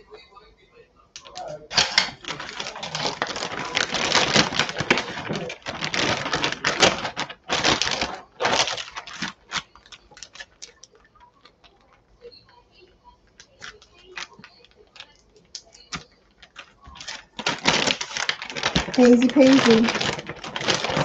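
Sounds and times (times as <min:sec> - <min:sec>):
plastic bags crinkling: 0:01.2 - 0:21.0.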